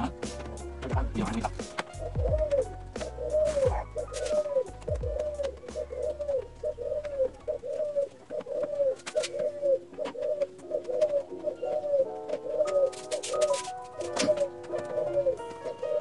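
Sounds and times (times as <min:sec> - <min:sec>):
bird calling: 0:01.3 - 0:16.0.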